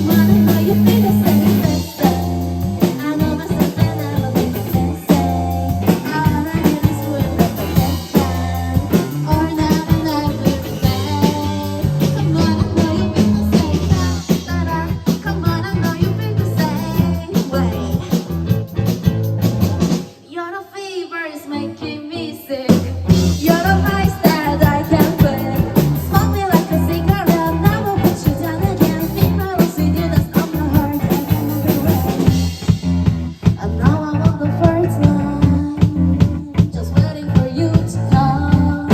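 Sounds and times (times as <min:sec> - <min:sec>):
rock band playing: 0:00.0 - 0:20.2, 0:22.7 - 0:38.9.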